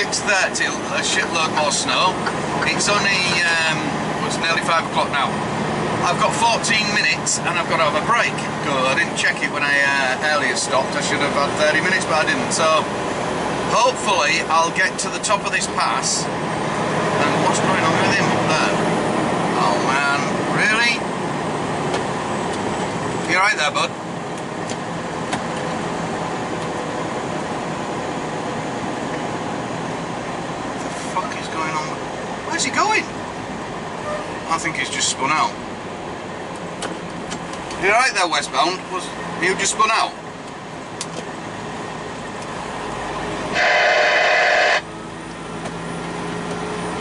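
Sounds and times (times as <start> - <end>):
truck engine and road noise: 0.0 - 47.0.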